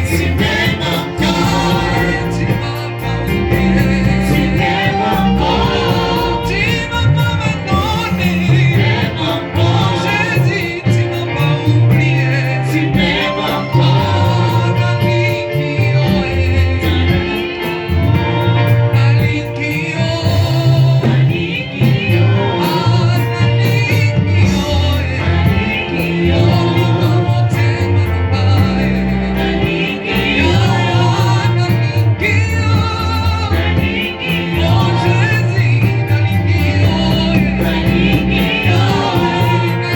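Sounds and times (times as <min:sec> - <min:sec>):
bass line: 0:00.0 - 0:39.9
gospel singing with band: 0:00.0 - 0:39.9.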